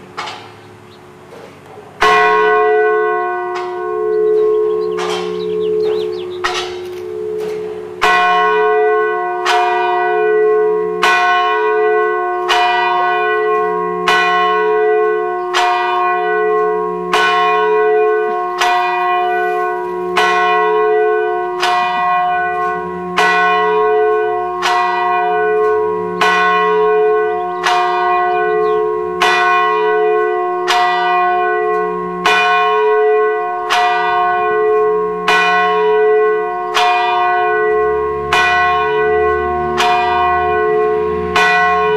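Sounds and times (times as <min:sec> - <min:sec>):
church bell tolling: 0:00.0 - 0:41.9.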